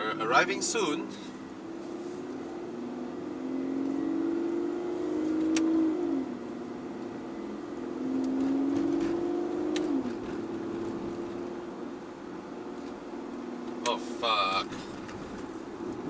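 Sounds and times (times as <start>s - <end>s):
car engine accelerating and shifting: 0.0s - 16.0s.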